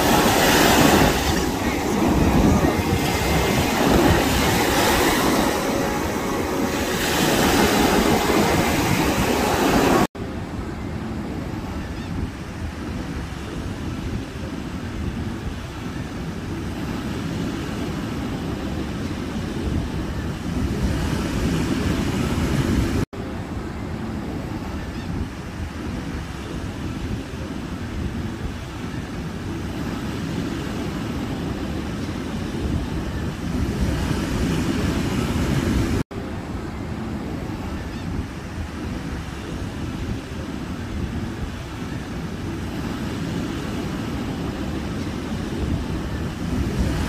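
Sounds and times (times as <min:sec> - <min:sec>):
surf washing on a beach: 0:00.0 - 0:47.0
wind rumble on microphone: 0:00.0 - 0:47.0.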